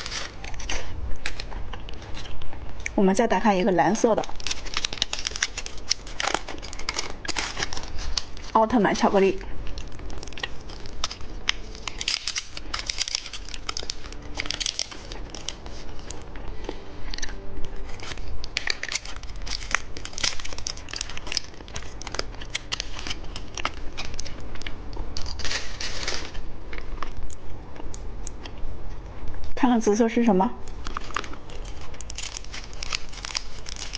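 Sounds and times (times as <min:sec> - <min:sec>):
candy wrapper crinkling and tearing: 0:00.0 - 0:28.6, 0:30.6 - 0:33.9.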